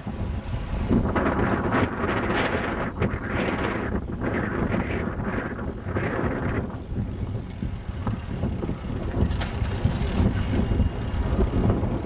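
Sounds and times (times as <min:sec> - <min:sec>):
bike riding road noise: 0:00.0 - 0:12.0
wind noise on microphone: 0:00.0 - 0:12.0.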